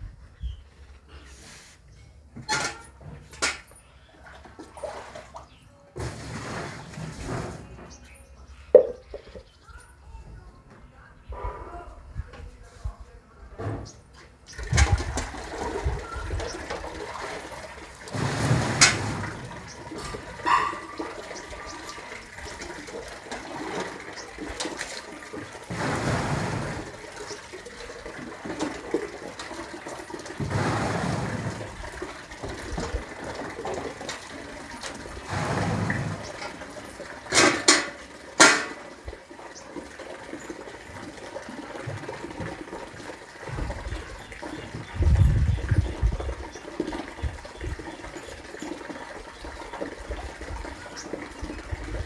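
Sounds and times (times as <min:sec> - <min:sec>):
water sloshing in washing machine tub: 0:02.4 - 0:09.4, 0:13.9 - 0:52.0.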